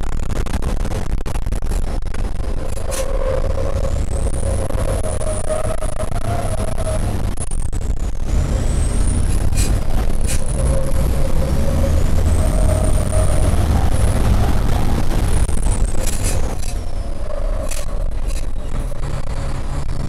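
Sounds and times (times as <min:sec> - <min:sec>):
loud diesel truck engines: 0:00.0 - 0:20.0.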